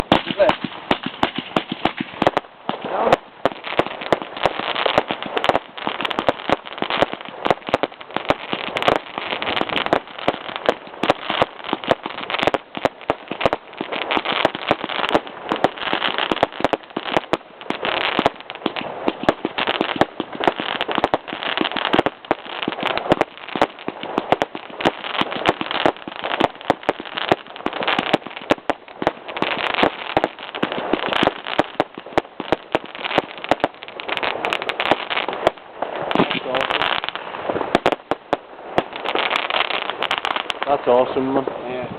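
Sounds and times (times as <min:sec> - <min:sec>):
firework rapid bangs and crackles: 0:00.0 - 0:41.8.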